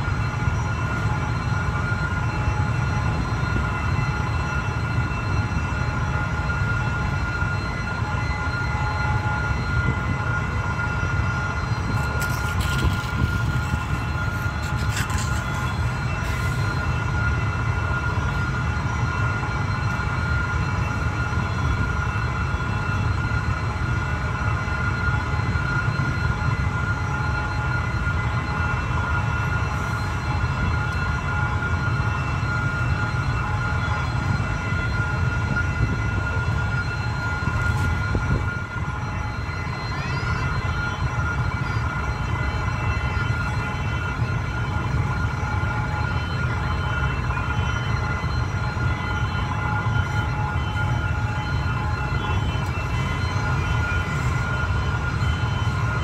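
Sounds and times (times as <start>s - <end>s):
constant high whine: 0.0s - 56.0s
locomotive engine rumble: 0.0s - 56.0s.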